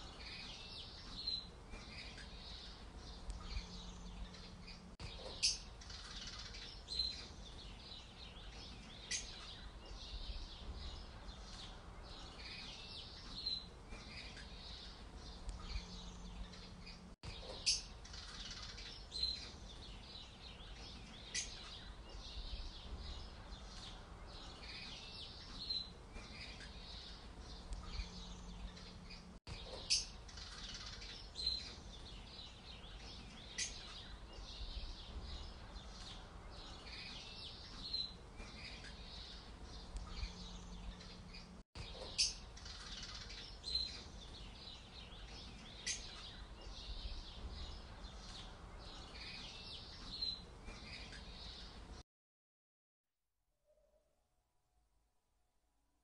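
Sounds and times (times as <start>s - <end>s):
sparrows chirping: 0.0s - 52.0s.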